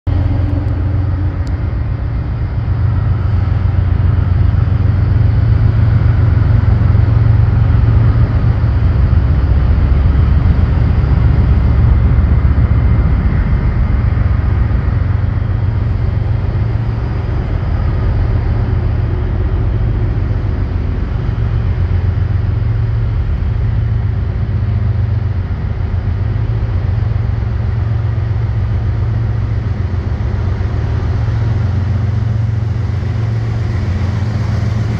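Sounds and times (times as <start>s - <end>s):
diesel locomotives rumbling: 0.0s - 34.9s.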